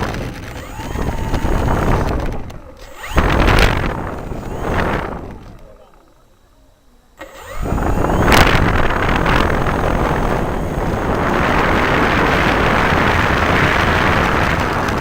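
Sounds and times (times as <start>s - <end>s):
propeller wind buffeting microphone: 0.0s - 6.5s, 7.4s - 15.0s
model airplane motor and propeller: 0.0s - 15.0s.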